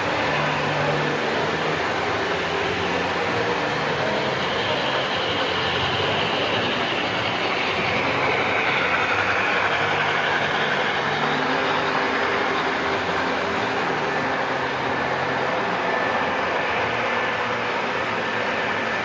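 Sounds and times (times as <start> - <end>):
faint motor whine: 0.0 - 19.0
model trains clattering: 0.0 - 19.0.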